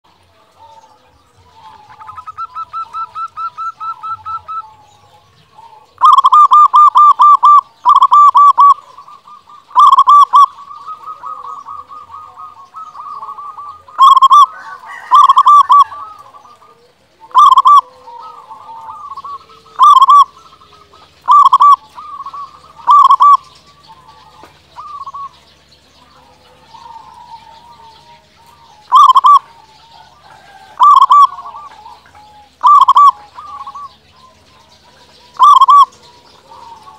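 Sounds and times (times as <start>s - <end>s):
dove cooing: 0.2s - 36.9s.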